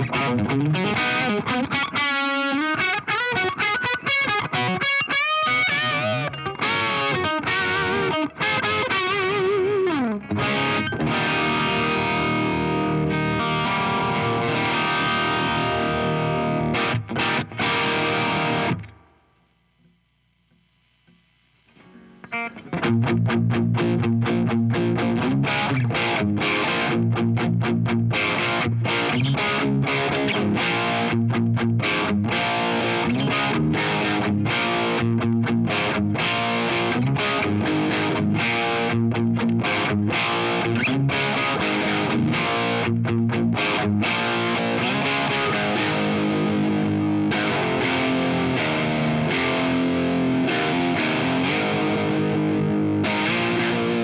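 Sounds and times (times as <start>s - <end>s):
overdriven electric guitar riff: 0.0s - 19.8s, 21.0s - 54.0s.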